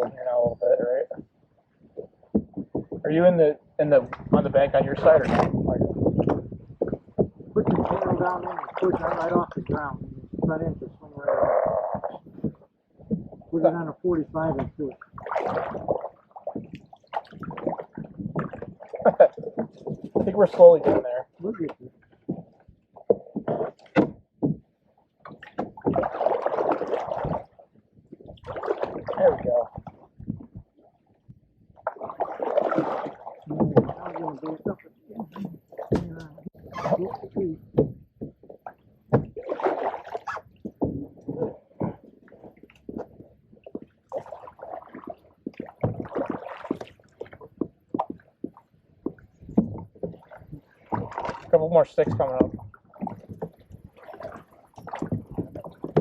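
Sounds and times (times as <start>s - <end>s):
paddle knocking against canoe hull: 0.0s - 3.3s, 4.0s - 10.8s, 11.6s - 13.5s, 14.5s - 56.0s
canoe scraping and splashing: 0.0s - 30.7s, 31.8s - 56.0s.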